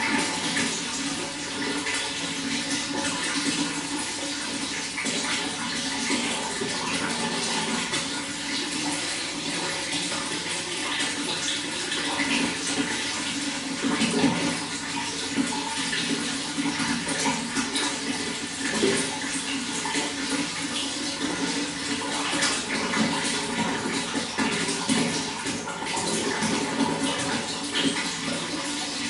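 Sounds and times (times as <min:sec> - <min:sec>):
running water rushing: 0:00.0 - 0:29.0.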